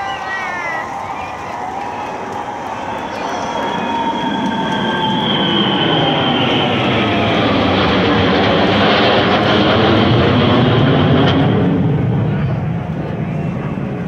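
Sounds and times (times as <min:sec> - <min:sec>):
jet aircraft passing overhead: 0:00.0 - 0:14.0.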